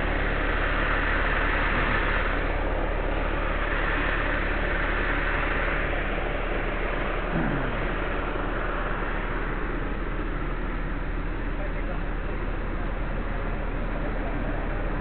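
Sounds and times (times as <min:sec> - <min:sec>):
heavy engine running: 0:00.0 - 0:15.0.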